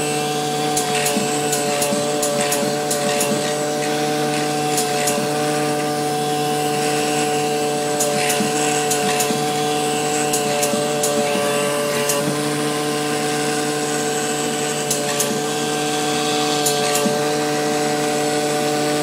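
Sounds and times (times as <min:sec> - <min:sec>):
cutting machine whine: 0:00.0 - 0:19.0.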